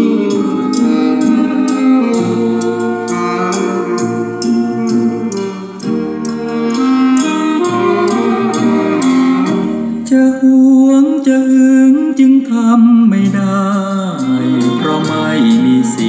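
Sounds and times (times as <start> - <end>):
song with vocals guitar and beat: 0.0 - 16.0.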